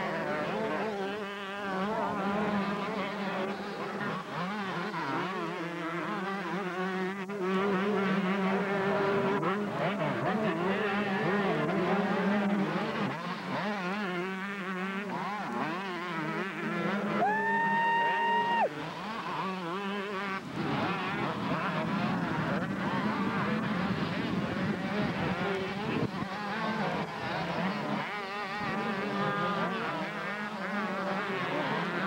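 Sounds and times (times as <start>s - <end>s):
motocross bikes revving: 0.0s - 32.0s.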